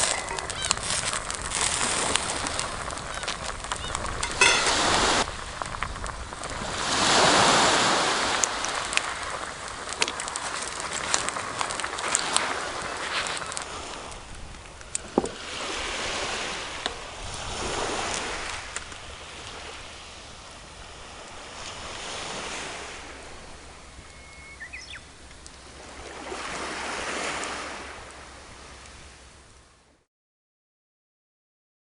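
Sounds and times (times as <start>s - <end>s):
waves washing onto shore: 0.0s - 29.8s.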